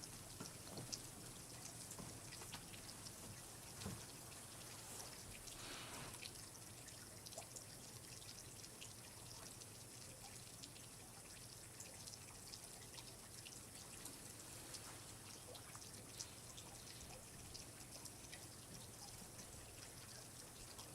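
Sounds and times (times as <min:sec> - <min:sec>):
soft steady hiss: 0:00.0 - 0:20.9
water dripping and trickling: 0:00.0 - 0:20.9.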